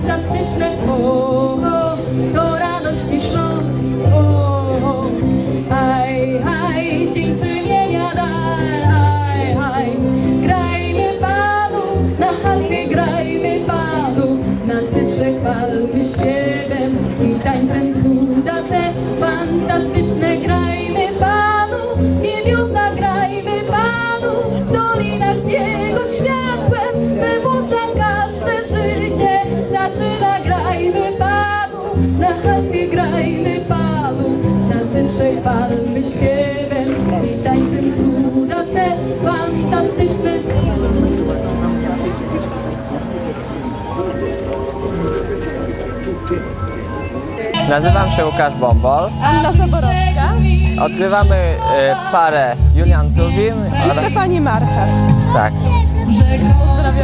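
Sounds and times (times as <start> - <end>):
woman singing with vibrato: 0.0 - 41.0, 49.2 - 52.2, 53.1 - 54.5, 55.9 - 57.0
instrumental accompaniment: 0.0 - 57.0.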